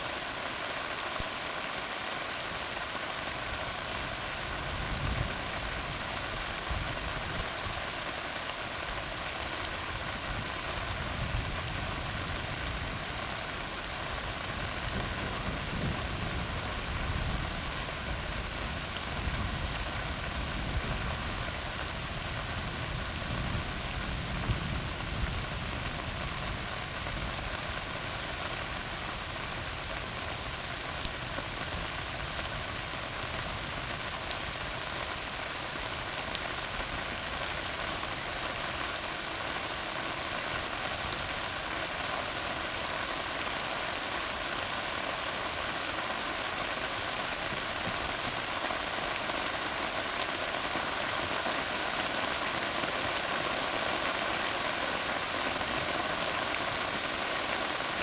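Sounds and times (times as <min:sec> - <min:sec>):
rain falling on a road: 0:00.0 - 0:58.0.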